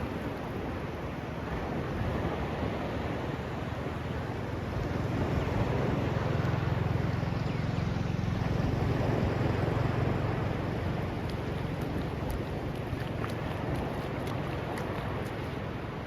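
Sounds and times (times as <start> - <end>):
sea surf on a beach: 0.0 - 16.0
wind on microphone: 0.0 - 16.0.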